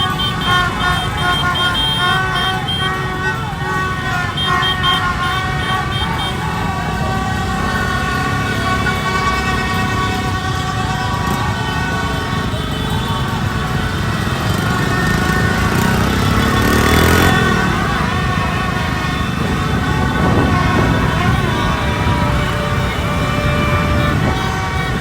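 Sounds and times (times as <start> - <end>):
car horns honking: 0.0 - 25.0
motorbike and car engines running: 0.0 - 25.0
people shouting: 0.0 - 25.0.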